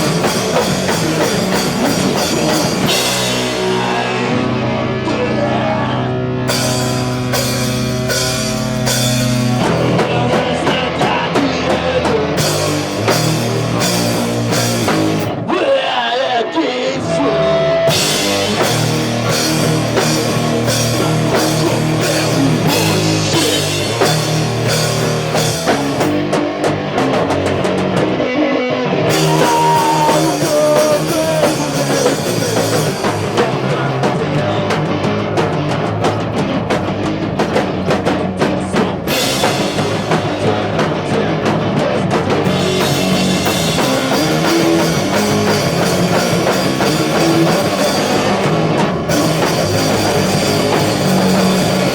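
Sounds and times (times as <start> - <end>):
live rock band playing: 0.0 - 15.5, 17.0 - 51.9.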